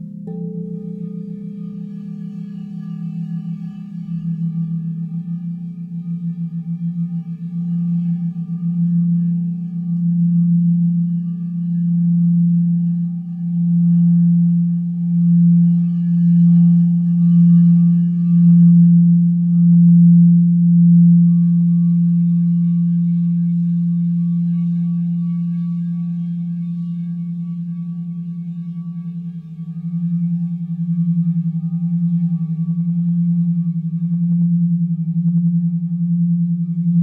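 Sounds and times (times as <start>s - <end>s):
crystal singing bowls ringing: 0.0s - 37.0s.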